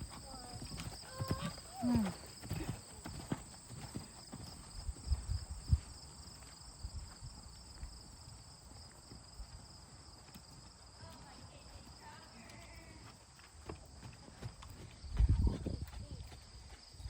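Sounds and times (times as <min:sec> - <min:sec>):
horse hoofbeats: 0:00.0 - 0:17.0.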